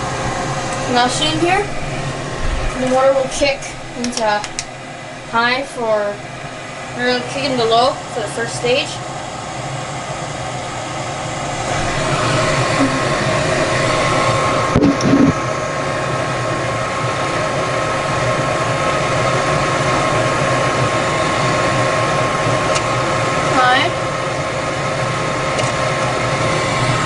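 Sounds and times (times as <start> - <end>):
furnace blower air rush and hum: 0.0 - 27.0.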